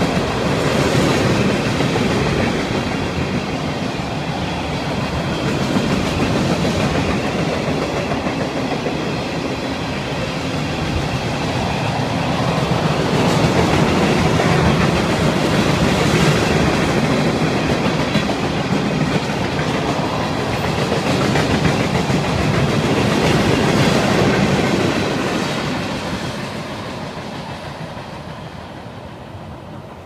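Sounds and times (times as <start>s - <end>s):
freight train rolling past: 0.0s - 30.0s
steel wheels rumbling on rails: 0.0s - 30.0s.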